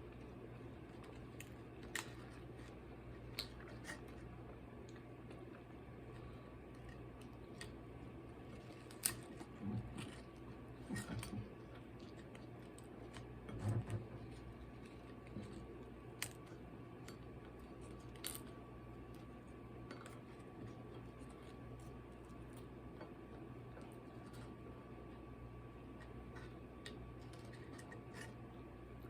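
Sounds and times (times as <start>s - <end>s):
eating and handling sounds: 0.0s - 29.0s
steady low hum: 0.0s - 29.0s.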